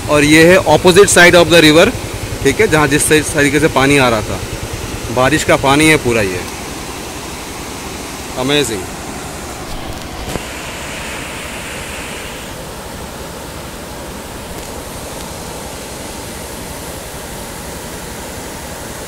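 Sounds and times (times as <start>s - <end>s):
river rapids rushing: 0.2s - 19.0s.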